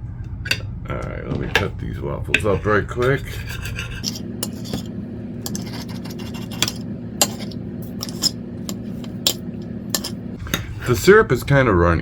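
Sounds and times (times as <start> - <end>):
steady low hum: 0.0 - 12.0
knife and fork on a plate: 1.4 - 11.2.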